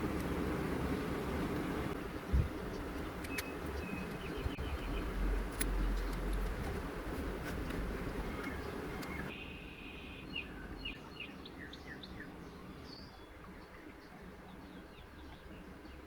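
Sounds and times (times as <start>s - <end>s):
small birds chirping: 0.2s - 6.5s, 7.6s - 16.0s.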